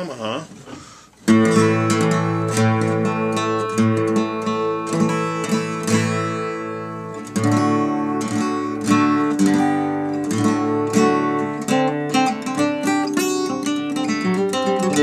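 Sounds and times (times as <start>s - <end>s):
guitar plucked and strummed: 1.2s - 15.0s.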